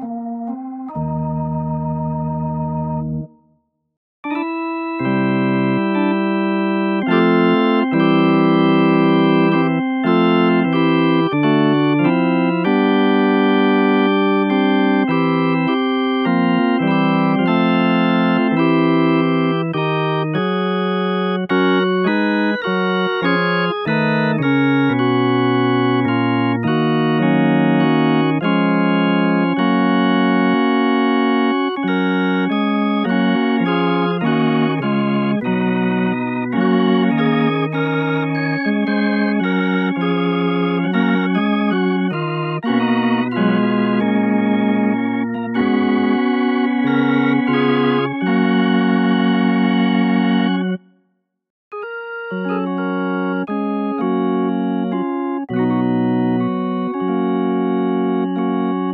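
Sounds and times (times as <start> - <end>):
rotary speaker organ warble: 0.0 - 3.3, 4.2 - 50.8, 51.8 - 58.9
tonewheel organ playing chords: 0.0 - 3.4, 4.2 - 50.9, 51.7 - 58.9.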